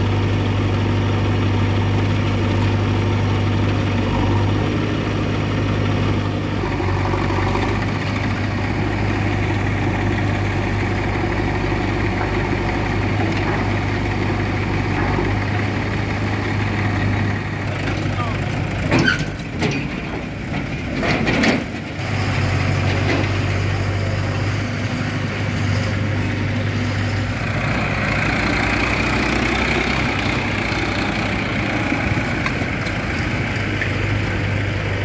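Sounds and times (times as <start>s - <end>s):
diesel engines humming: 0.0s - 35.0s.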